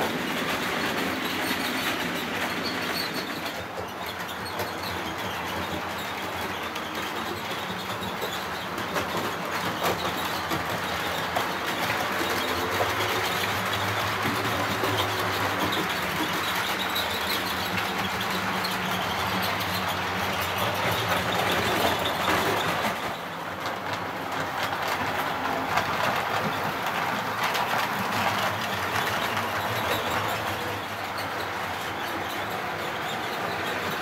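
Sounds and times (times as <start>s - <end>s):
train wheels clattering on track: 0.0s - 34.0s.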